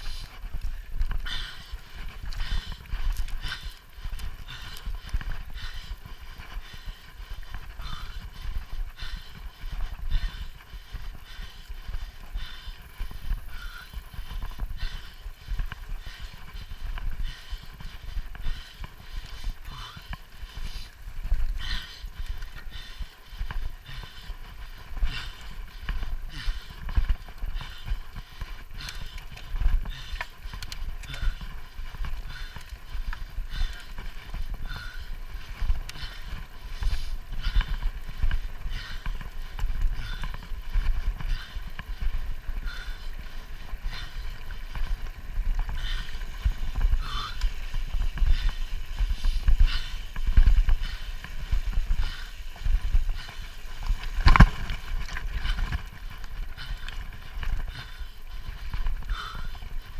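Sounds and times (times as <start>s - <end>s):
bike rattling over rough ground: 0.0s - 59.9s.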